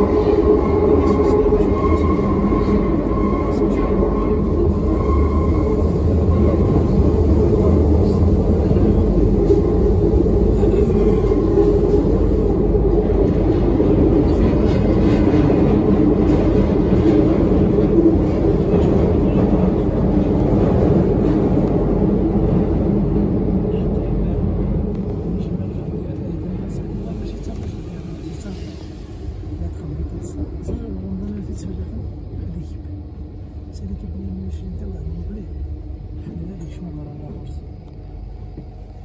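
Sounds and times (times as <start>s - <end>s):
train rumbling in tunnel: 0.0s - 39.0s.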